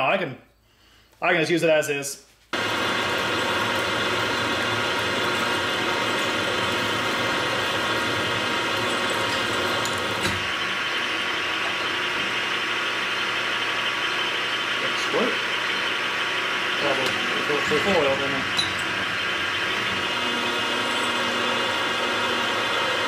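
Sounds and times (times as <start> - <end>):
milling machine drilling metal: 2.6 - 23.0.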